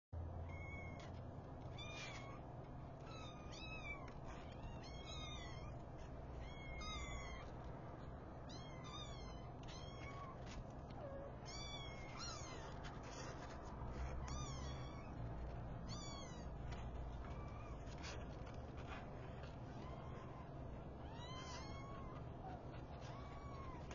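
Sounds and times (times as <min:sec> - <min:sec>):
low steady hum: 0:00.2 - 0:23.9
kittens mewing: 0:00.4 - 0:23.9.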